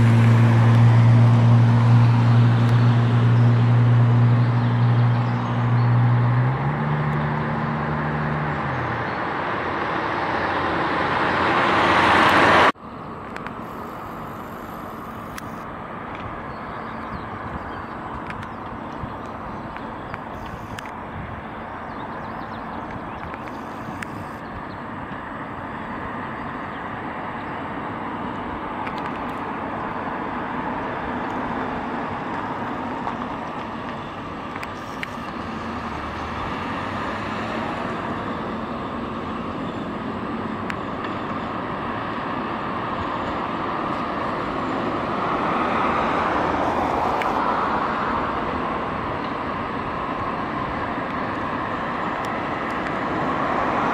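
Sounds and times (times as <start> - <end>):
road noise rumble: 0.0 - 53.9
tram and car approaching: 0.0 - 53.9.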